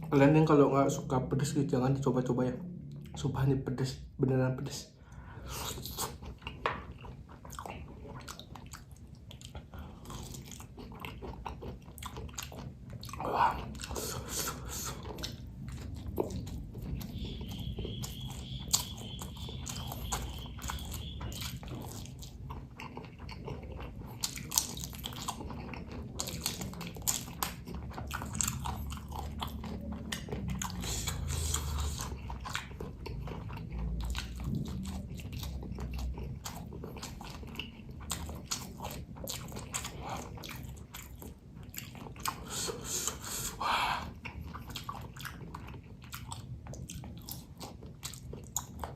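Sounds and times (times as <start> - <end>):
person chewing food: 5.0 - 48.9.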